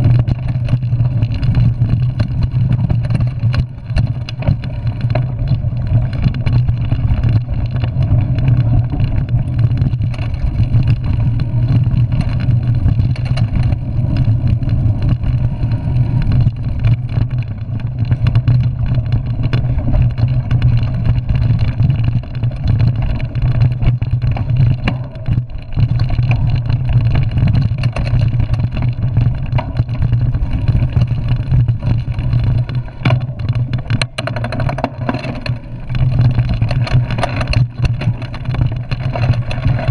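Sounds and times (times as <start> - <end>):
bike rattling: 0.0 - 39.9
tyres rumbling over dirt: 0.0 - 39.9.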